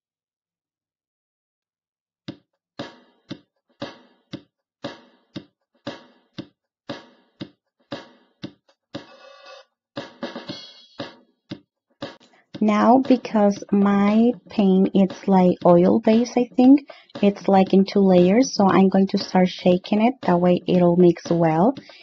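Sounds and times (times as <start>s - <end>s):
drum beat: 2.8s - 22.0s.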